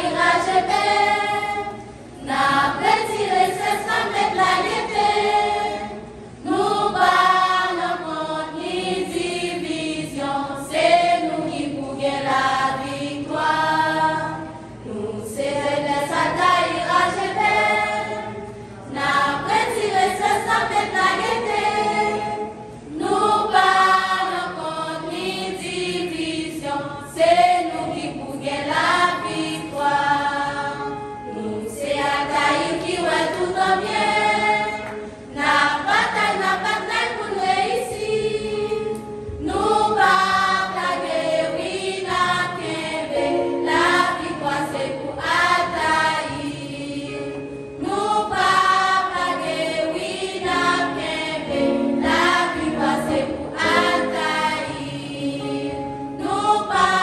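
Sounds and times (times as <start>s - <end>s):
mixed choir singing a hymn: 0.0s - 57.0s.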